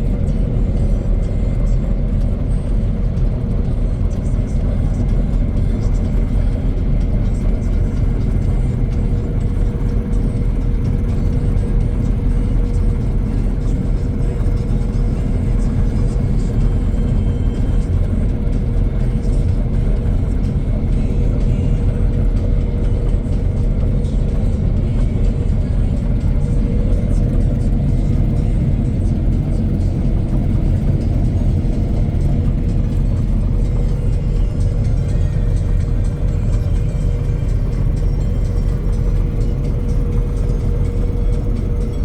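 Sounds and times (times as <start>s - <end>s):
mowing machine engine running: 0.0s - 42.0s.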